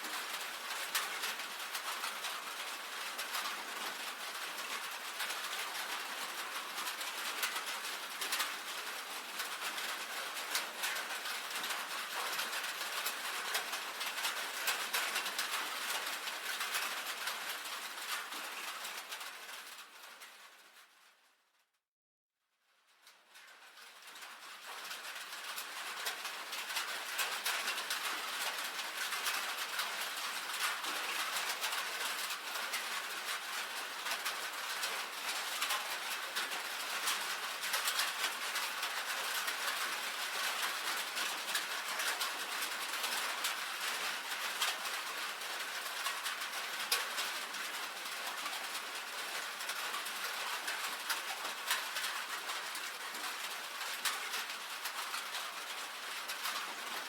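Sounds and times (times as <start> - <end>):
rain on a tin roof: 0.0 - 21.7, 22.6 - 57.0.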